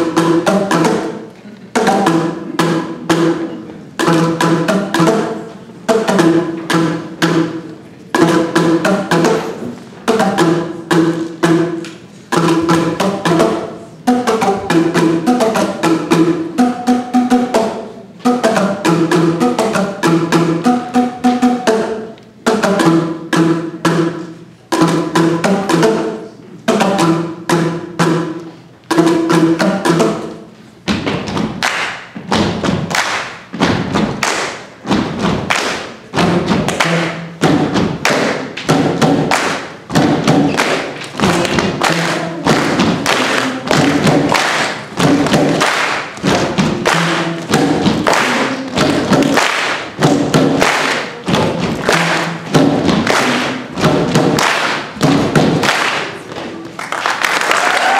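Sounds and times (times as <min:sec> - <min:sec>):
plastic percussion tubes struck: 0:00.0 - 0:56.6.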